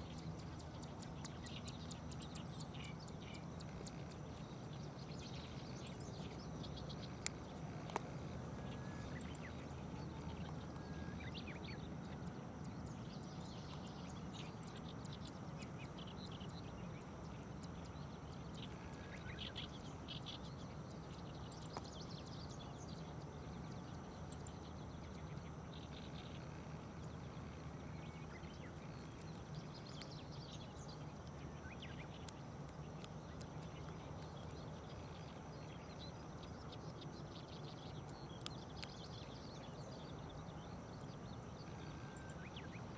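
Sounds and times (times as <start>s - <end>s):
bird calls: 0.0s - 42.9s
low background rumble: 0.0s - 42.9s
small birds chirping: 0.0s - 42.9s.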